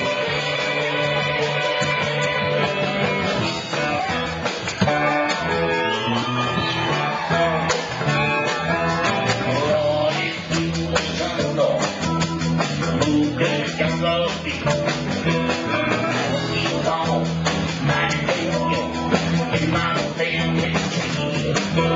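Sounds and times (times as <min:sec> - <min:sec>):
drum kit: 0:00.0 - 0:21.9
electric guitar: 0:00.0 - 0:21.9
live blues-rock band: 0:00.0 - 0:21.9.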